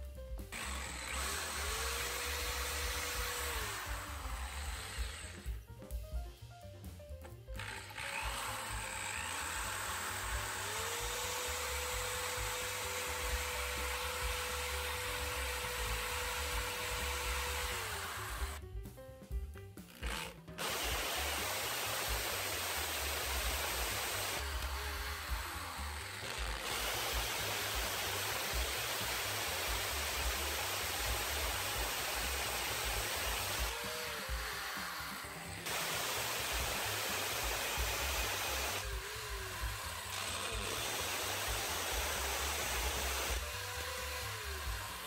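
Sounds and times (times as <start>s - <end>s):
hammer drill boring into brick: 0.5s - 5.6s, 7.5s - 18.6s, 19.8s - 45.0s.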